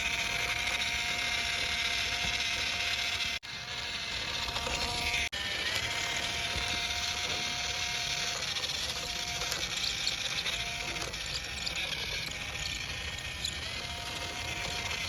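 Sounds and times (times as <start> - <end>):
toy motor and gears whirring: 0.0 - 15.0.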